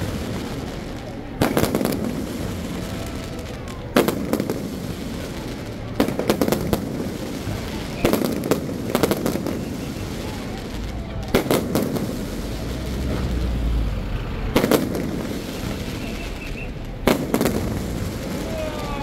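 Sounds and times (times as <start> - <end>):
fireworks cracking bangs: 0.0 - 19.0.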